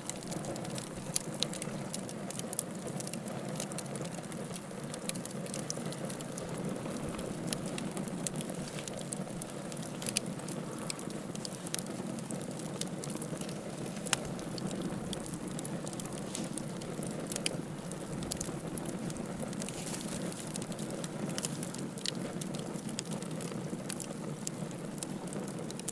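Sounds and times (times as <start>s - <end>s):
fire crackling and popping: 0.0s - 25.9s
rush of flame: 0.0s - 25.9s.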